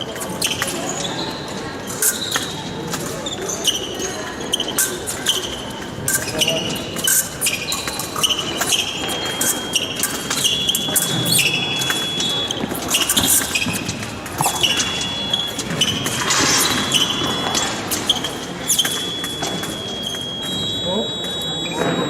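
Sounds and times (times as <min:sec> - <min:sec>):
shoes squeaking: 0:00.2 - 0:22.0.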